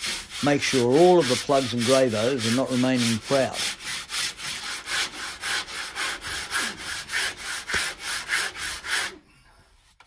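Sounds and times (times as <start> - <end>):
sandpaper rubbing on wood: 0.0 - 9.2.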